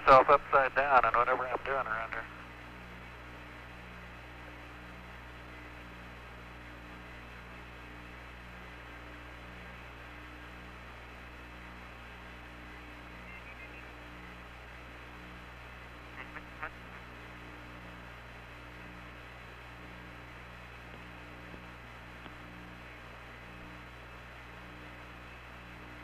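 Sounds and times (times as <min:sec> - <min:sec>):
radio electrical hum and hiss: 0:00.0 - 0:26.0.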